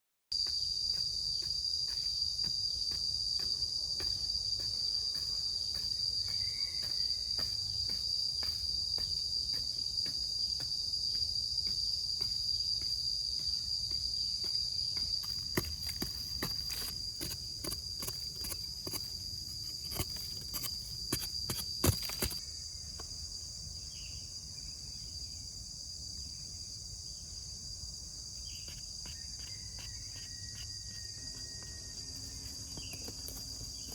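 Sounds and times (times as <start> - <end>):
insects trilling: 0.4 - 33.9.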